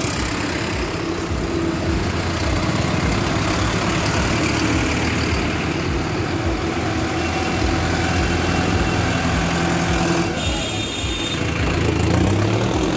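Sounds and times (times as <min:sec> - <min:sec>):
tractor diesel engine idling: 0:00.0 - 0:12.9.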